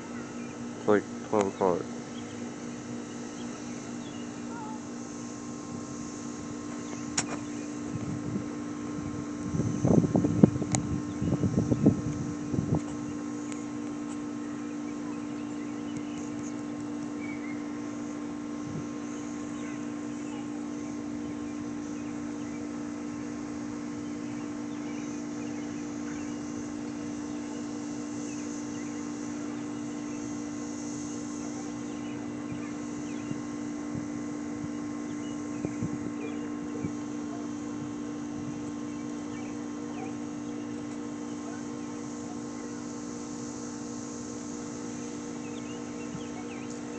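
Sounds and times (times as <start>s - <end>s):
air conditioning unit humming: 0.0s - 46.9s
insect drone: 0.0s - 46.9s.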